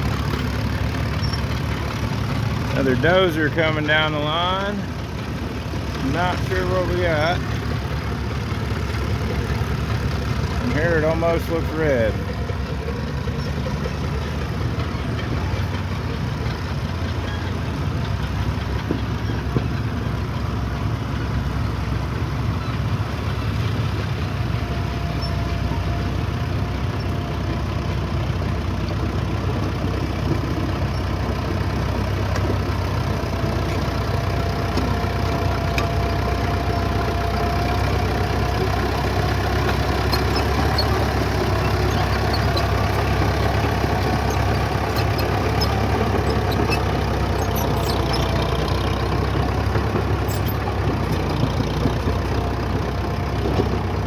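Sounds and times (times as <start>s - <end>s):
bulldozer engine running: 0.0s - 54.0s.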